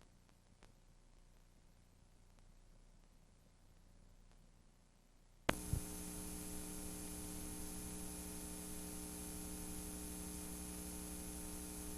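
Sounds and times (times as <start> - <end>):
electrical hum with hiss: 0.0 - 11.9.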